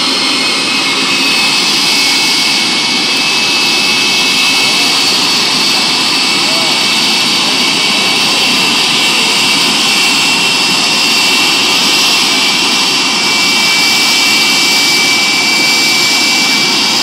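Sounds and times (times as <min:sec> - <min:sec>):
high-pitched turbine whine: 0:00.0 - 0:17.0
jet engine roar: 0:00.0 - 0:17.0.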